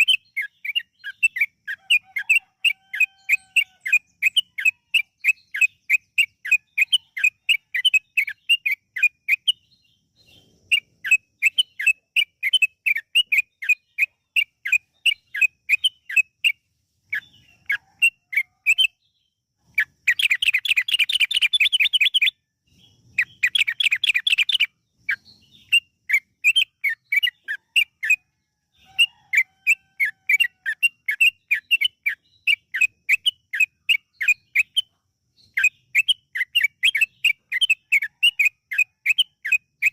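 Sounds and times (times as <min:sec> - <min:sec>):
bird singing chattering notes: 0:00.0 - 0:39.9
bird trills: 0:00.0 - 0:39.9.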